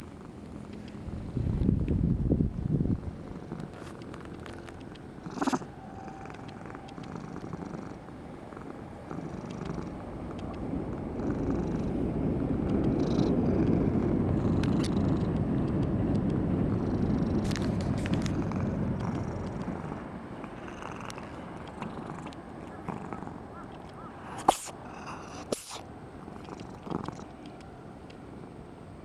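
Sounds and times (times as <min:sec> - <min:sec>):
cat purring: 0:00.0 - 0:27.6.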